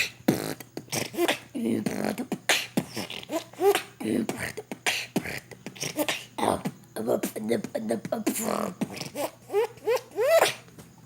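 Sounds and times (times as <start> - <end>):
person beatboxing: 0.0 - 10.7.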